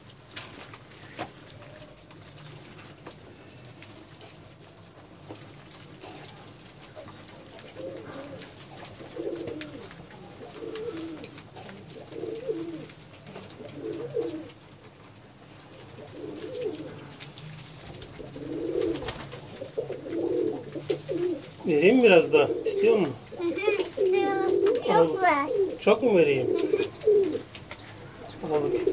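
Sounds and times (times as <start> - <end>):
pigeons cooing: 0.8 - 28.9.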